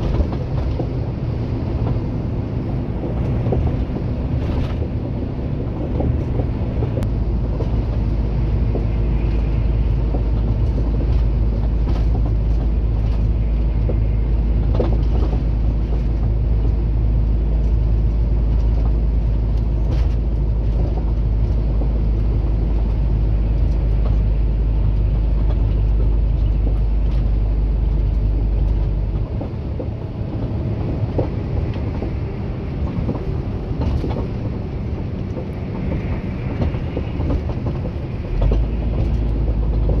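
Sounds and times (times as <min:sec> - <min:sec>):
road noise: 0:00.0 - 0:40.0
truck engine drone: 0:00.0 - 0:40.0.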